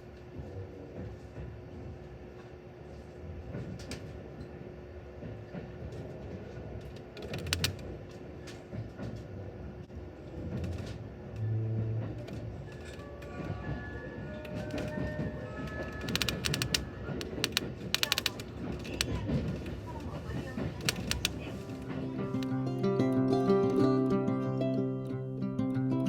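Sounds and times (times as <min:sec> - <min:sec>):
moving train rumble: 0:00.0 - 0:22.8.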